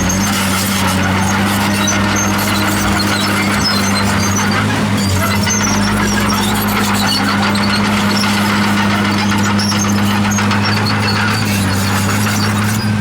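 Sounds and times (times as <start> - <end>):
bulldozer diesel engine running: 0.0 - 13.0
short high squeaks: 0.0 - 13.0.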